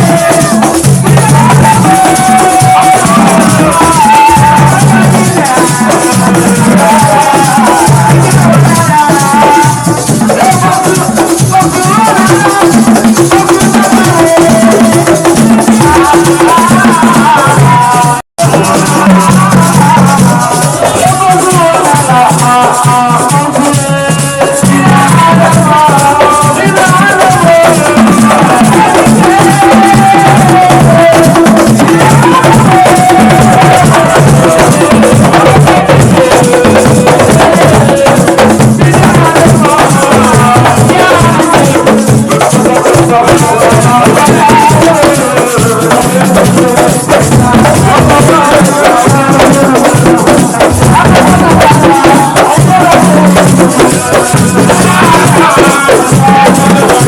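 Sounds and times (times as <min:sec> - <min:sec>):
loud music with percussion: 0:00.0 - 0:57.0.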